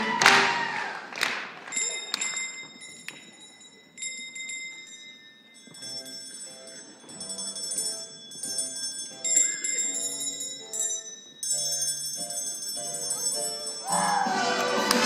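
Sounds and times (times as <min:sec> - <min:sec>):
high metallic bell chimes: 0:01.7 - 0:14.7.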